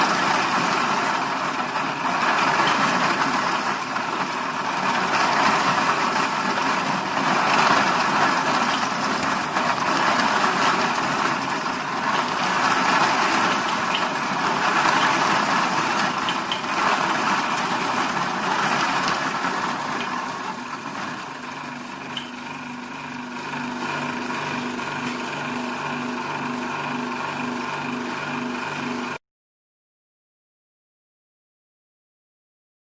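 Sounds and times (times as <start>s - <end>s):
electric machine motor hum: 0.0s - 29.2s.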